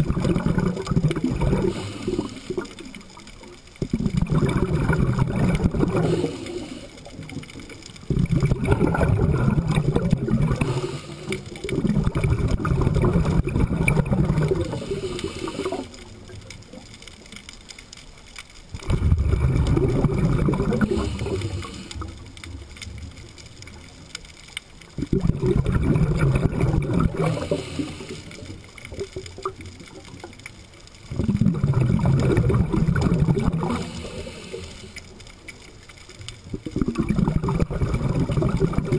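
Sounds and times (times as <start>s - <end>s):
scuba regulator bubbling exhale: 0.0s - 3.2s, 3.8s - 16.4s, 18.8s - 22.6s, 25.0s - 30.1s, 31.1s - 35.2s, 36.5s - 38.9s.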